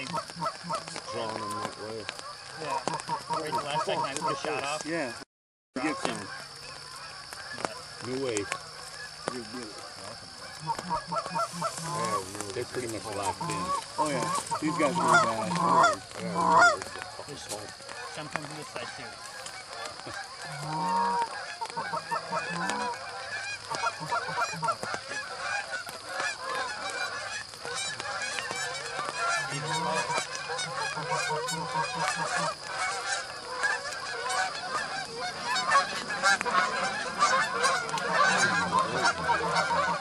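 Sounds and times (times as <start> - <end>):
geese honking: 0.0 - 5.2, 5.8 - 40.0.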